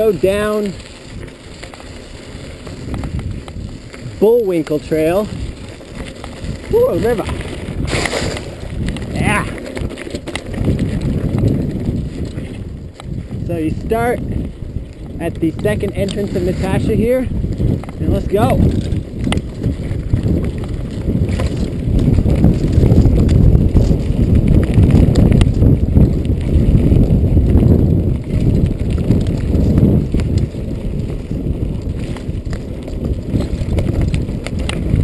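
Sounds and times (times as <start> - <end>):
bike knocks and rattles: 0.0 - 35.0
bike tyres rumbling on dirt: 0.0 - 35.0.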